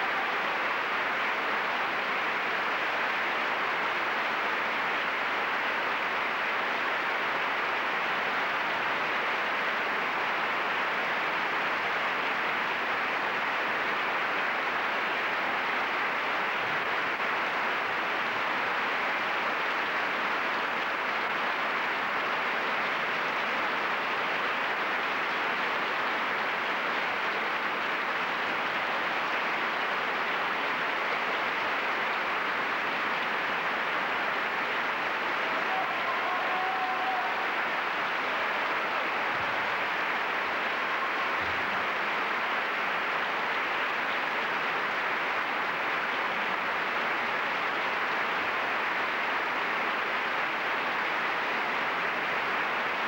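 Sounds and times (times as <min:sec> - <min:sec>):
tape hiss: 0:00.0 - 0:53.0.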